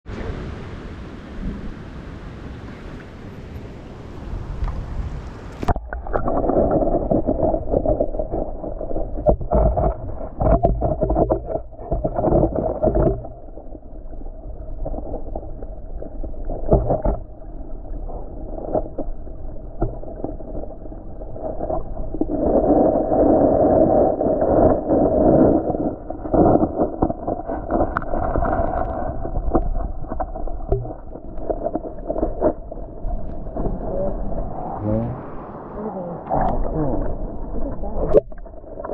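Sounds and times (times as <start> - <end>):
muffled underwater water rushing: 0.0 - 38.9
underwater knocks and bumps: 5.6 - 34.8, 36.3 - 38.9.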